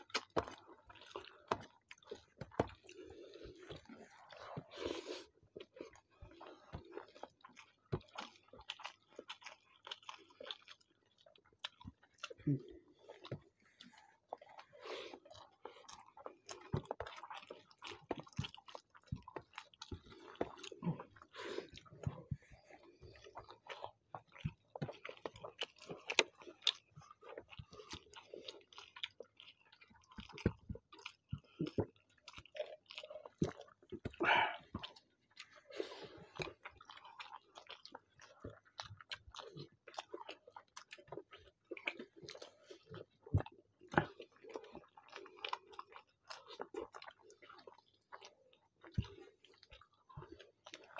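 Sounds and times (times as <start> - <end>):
wet chewing: 0.0 - 50.9.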